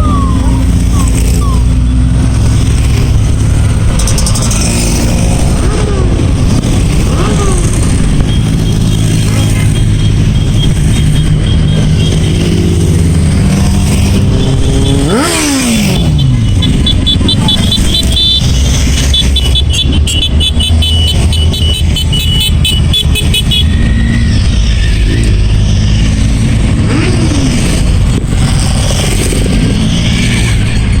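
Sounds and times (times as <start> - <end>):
motorcycles riding past: 0.0 - 19.4, 23.7 - 31.0.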